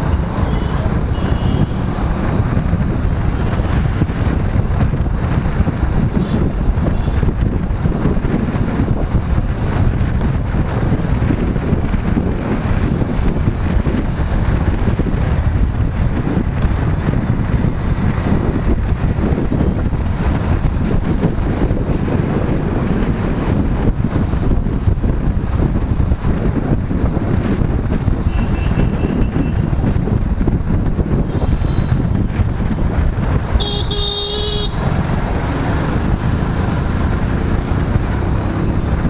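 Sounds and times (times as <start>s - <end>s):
motorcycle engine and road noise: 0.0s - 39.0s
wind buffeting microphone: 0.0s - 39.0s.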